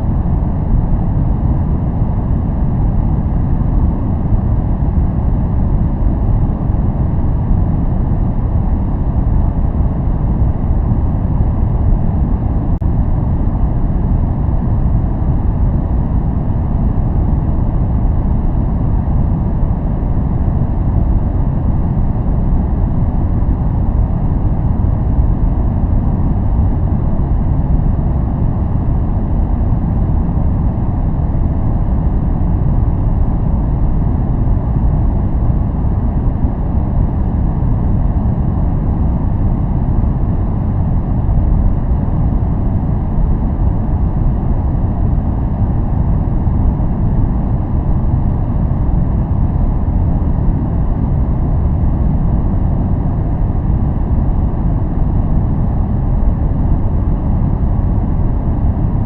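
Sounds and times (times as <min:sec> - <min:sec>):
deep steady noise: 0:00.0 - 0:59.0.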